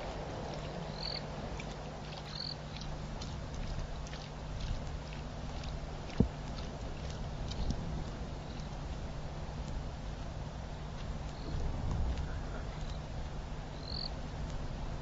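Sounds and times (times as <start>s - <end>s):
noisy hiss: 0.0s - 15.0s
steady low hum: 0.0s - 15.0s.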